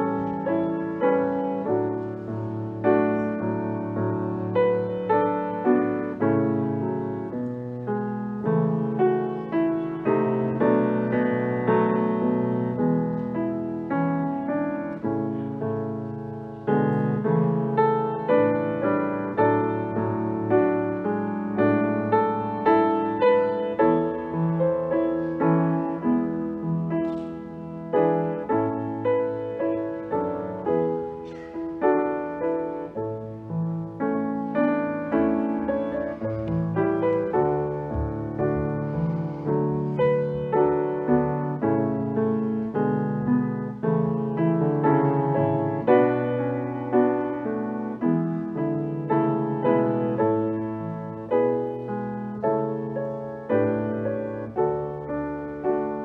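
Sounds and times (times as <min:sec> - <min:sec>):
slow piano chords: 0:00.0 - 0:56.0.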